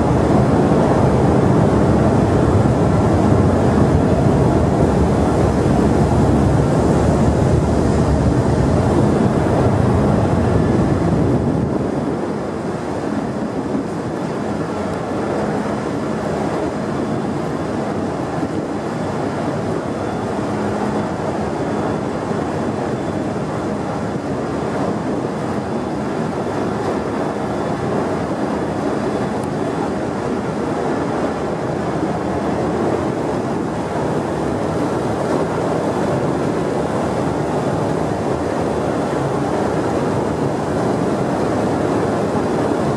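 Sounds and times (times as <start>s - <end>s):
steady rumbling ambience: 0.0s - 42.9s.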